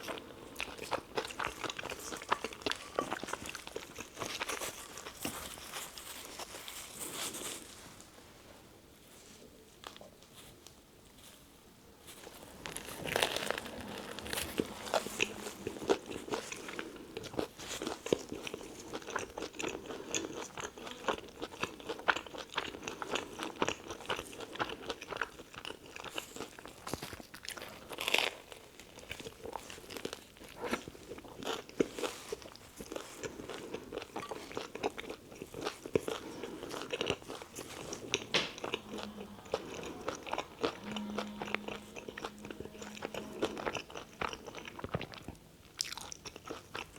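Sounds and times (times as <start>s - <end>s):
crunchy chewing of toasted bread: 0.0s - 8.2s, 9.3s - 46.9s.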